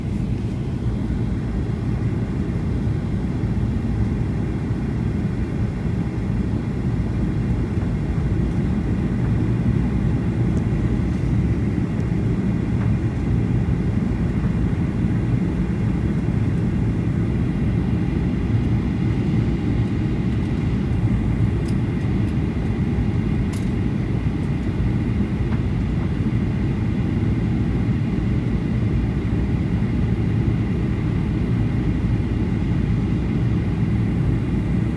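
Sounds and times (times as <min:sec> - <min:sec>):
airliner cabin drone: 0:00.0 - 0:34.9.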